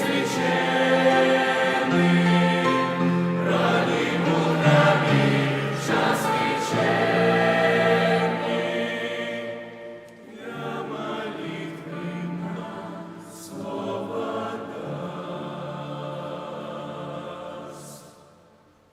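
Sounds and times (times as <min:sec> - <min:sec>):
choir singing: 0:00.0 - 0:18.6.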